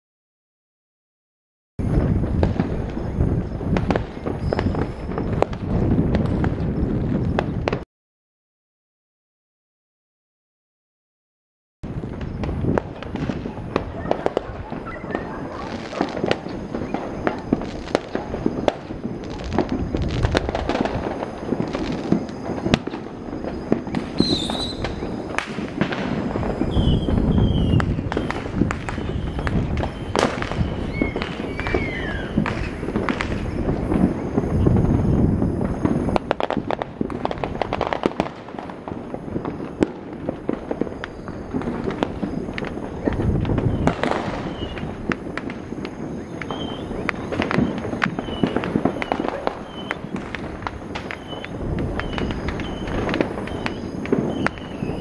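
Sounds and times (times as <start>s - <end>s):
firework whistles: 1.8s - 7.8s, 11.9s - 55.0s
fireworks bangs and crackles: 1.8s - 7.8s, 11.8s - 55.0s.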